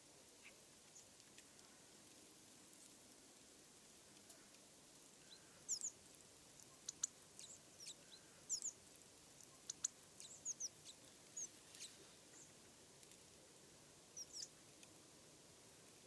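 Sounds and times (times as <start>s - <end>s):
faint background hiss: 0.0s - 16.0s
songbirds chirping: 0.0s - 16.0s.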